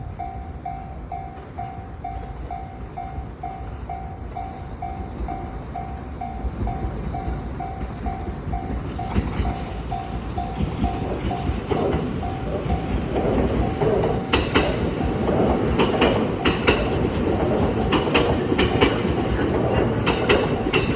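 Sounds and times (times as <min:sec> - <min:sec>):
level crossing warning bell: 0:00.0 - 0:17.2
train rumble: 0:00.0 - 0:20.9.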